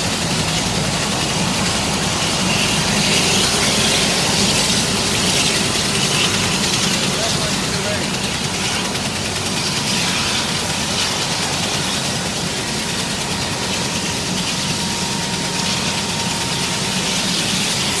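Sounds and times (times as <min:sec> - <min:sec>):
helicopter turbine whine: 0:00.0 - 0:18.0
low rotor hum: 0:00.0 - 0:18.0.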